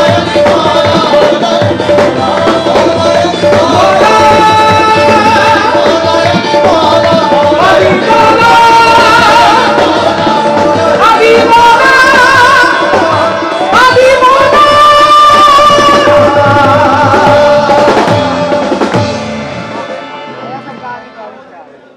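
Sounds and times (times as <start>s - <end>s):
man singing long held notes: 0.0s - 19.2s
harmonium: 0.0s - 21.9s
tabla: 0.0s - 21.9s.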